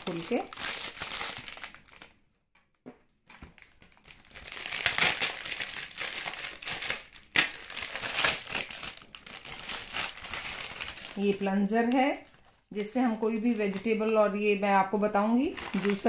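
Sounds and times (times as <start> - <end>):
packaging crinkling and rustling: 0.0 - 14.3, 15.4 - 16.0.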